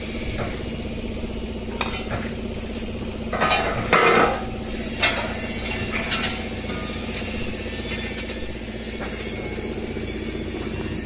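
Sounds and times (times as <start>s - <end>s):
welding arc sizzling: 0.0s - 11.0s
welding machine humming: 0.0s - 11.0s.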